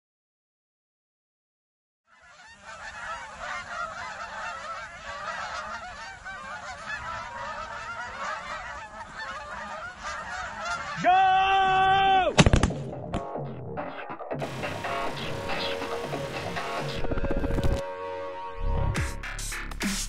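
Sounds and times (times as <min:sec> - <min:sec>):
geese honking: 0:02.1 - 0:12.4, 0:13.0 - 0:20.0.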